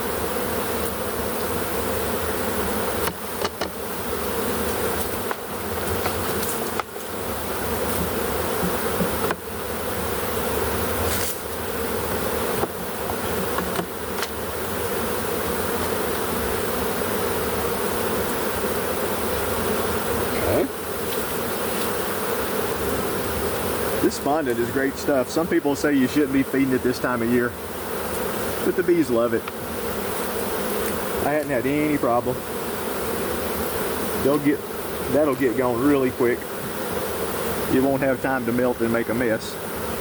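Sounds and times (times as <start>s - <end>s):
honey bees buzzing: 0.0s - 40.0s.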